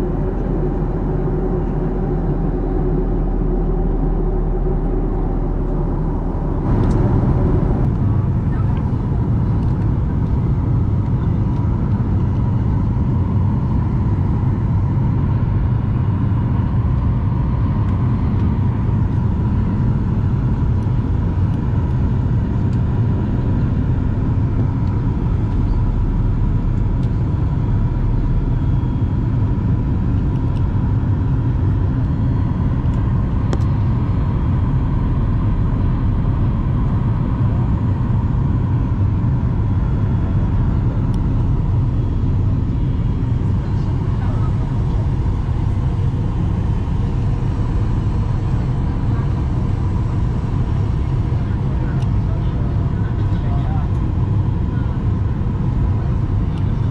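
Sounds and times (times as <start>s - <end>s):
faint constant whine: 0.0s - 56.9s
jet engine and airflow rumble: 0.0s - 56.9s.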